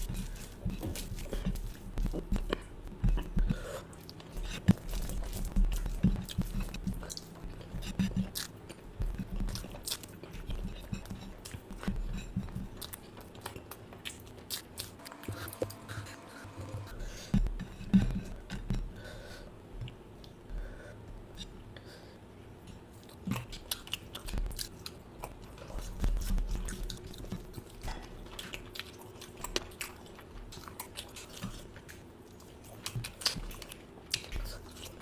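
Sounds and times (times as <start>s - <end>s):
person chewing and crunching food: 0.0s - 20.5s, 22.6s - 35.0s.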